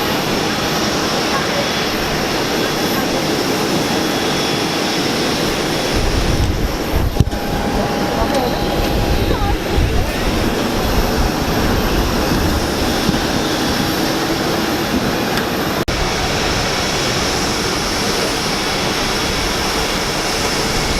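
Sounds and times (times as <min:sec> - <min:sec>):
high whine: 0:00.0 - 0:20.9
jet engines running: 0:00.0 - 0:20.9.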